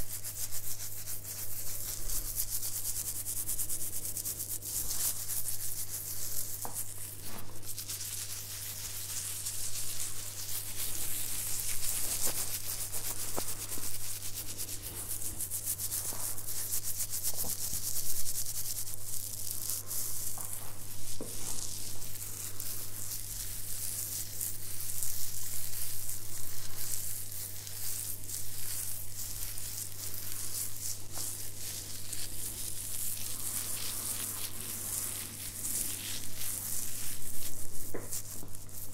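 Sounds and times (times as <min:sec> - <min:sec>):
fingers scratching through beard: 0:00.0 - 0:38.9.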